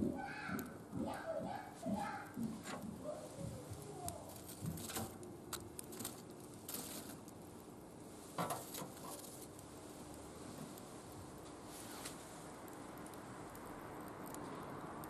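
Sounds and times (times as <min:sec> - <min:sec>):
wood fire crackling in a grill: 0:00.0 - 0:15.0.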